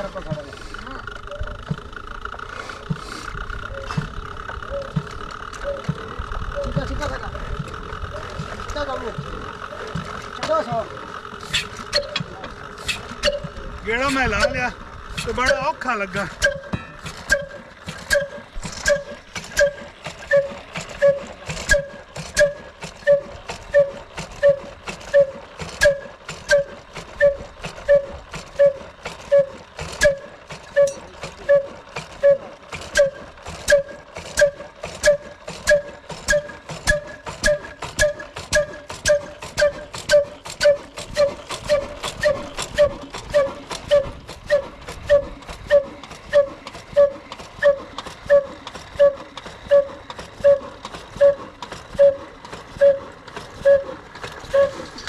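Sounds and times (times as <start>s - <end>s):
slow diesel engine knocking: 0.0s - 55.0s.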